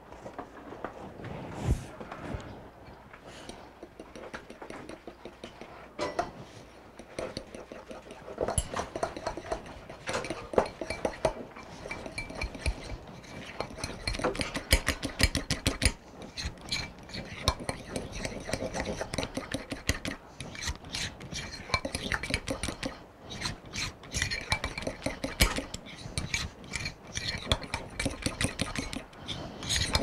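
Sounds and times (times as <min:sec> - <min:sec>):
metal spoon beating egg in bowl: 0:03.5 - 0:06.3, 0:06.9 - 0:30.0.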